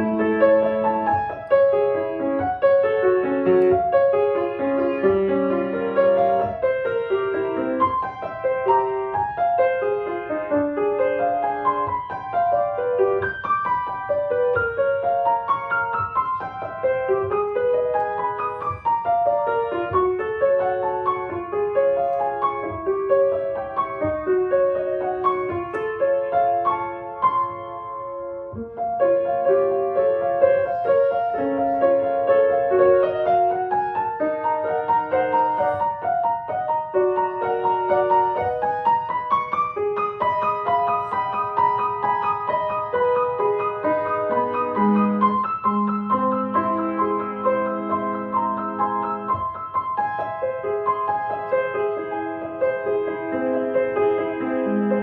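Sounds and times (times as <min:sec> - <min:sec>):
solo piano playing: 0:00.0 - 0:55.0.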